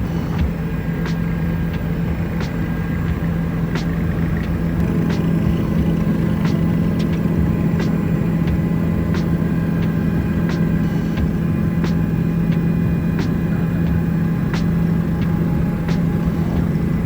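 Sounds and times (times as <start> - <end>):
helicopter engine and rotors: 0.0 - 17.0.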